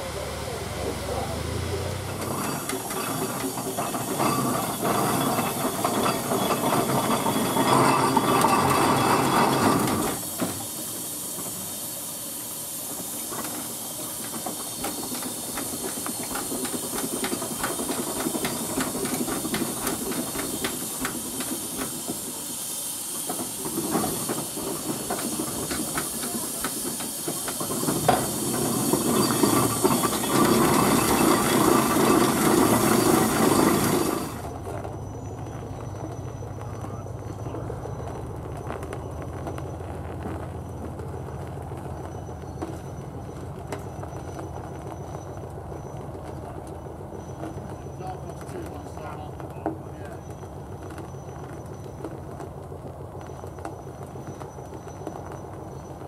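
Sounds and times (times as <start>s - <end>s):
engine ticking and clanking: 0.0s - 11.5s, 13.1s - 22.6s, 23.2s - 56.0s
steam hissing: 0.0s - 52.3s.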